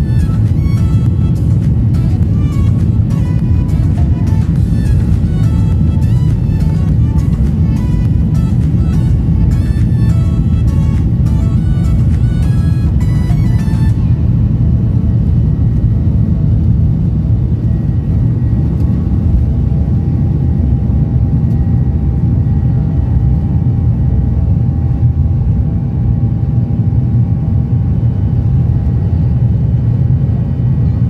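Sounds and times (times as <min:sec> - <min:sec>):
jet engines rumbling in cabin: 0:00.0 - 0:31.0.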